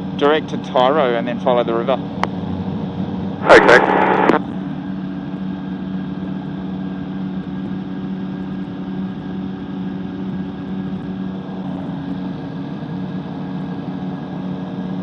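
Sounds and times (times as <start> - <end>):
microlight engine droning: 0.0 - 15.0.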